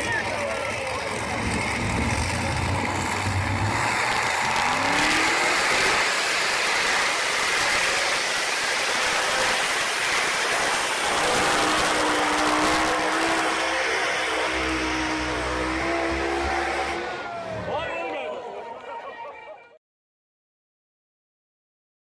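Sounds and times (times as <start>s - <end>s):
tractor engine revving: 0.0s - 17.8s.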